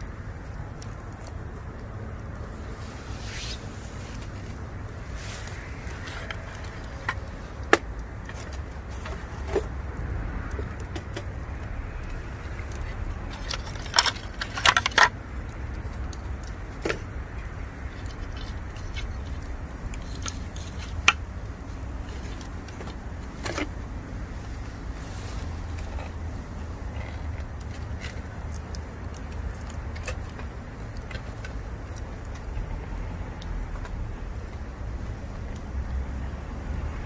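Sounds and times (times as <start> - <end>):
campfire crackling and popping: 0.0 - 37.0
steady low rumble: 0.0 - 37.0.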